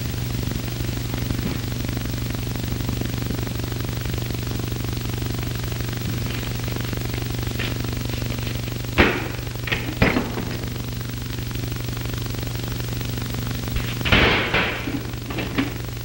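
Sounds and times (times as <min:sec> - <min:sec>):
film soundtrack hiss and hum: 0:00.0 - 0:16.0.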